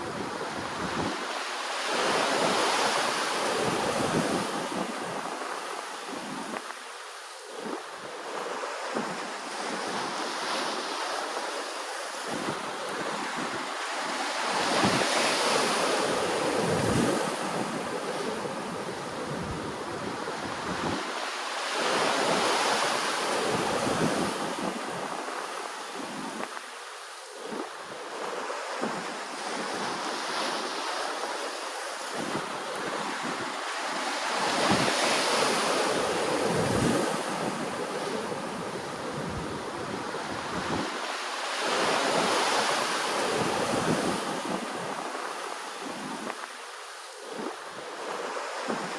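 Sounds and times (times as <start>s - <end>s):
wind buffeting microphone: 0.0s - 6.7s, 12.1s - 26.6s, 27.4s - 46.6s, 47.2s - 48.9s
ocean waves breaking: 0.0s - 48.9s.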